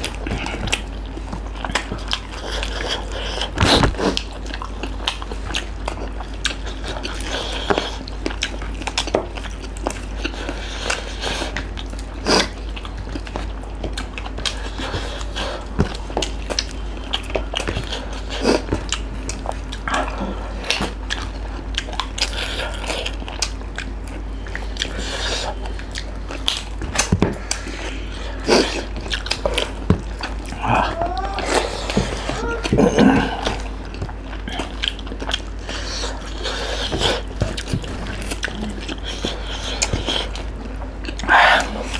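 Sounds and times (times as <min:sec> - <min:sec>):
people chewing and lip smacking: 0:00.0 - 0:41.9
steady low hum: 0:00.0 - 0:41.9.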